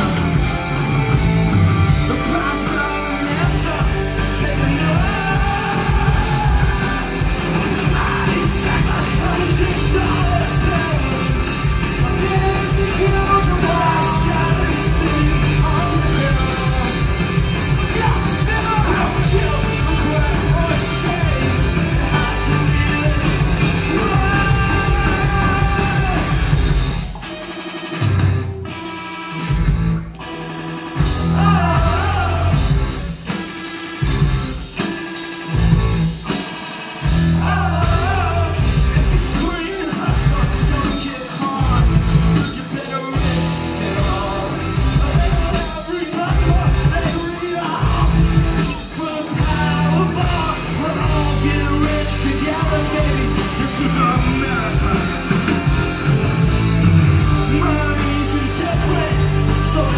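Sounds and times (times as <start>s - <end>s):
live punk rock band: 0.0s - 59.9s.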